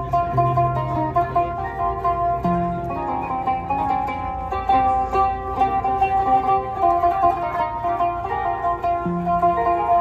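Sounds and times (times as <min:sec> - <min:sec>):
plucked zither melody: 0:00.0 - 0:10.0.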